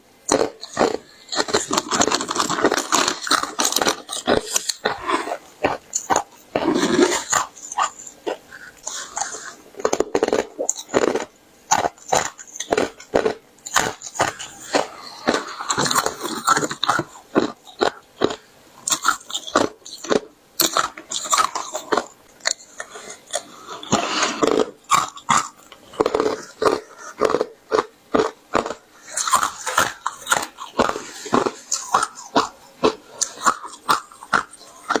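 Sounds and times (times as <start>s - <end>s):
ice being chewed: 0.2s - 35.0s.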